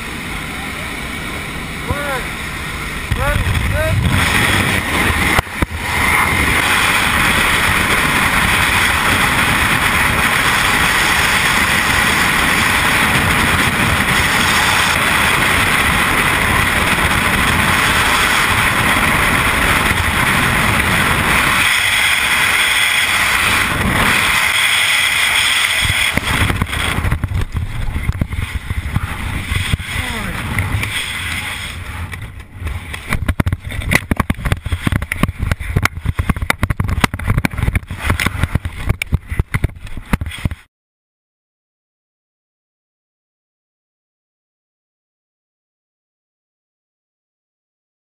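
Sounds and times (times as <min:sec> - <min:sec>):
wind rushing over microphone: 0:00.0 - 0:40.7.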